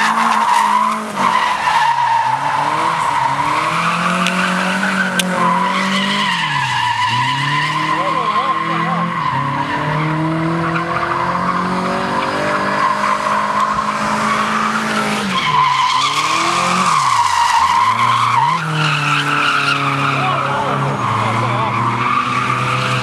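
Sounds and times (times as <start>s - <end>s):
tyres squealing: 0.0s - 10.0s, 12.7s - 23.0s
car engine revving high: 0.0s - 23.0s.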